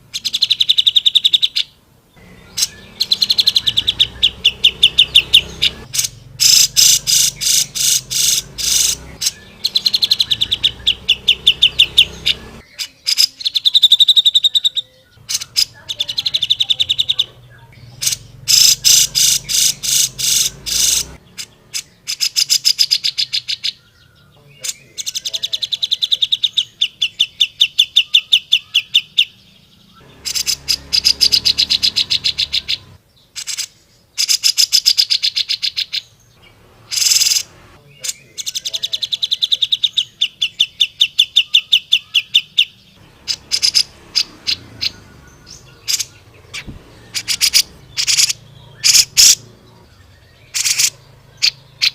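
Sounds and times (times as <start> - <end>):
bird singing sharp repeated notes: 0.0 - 51.9.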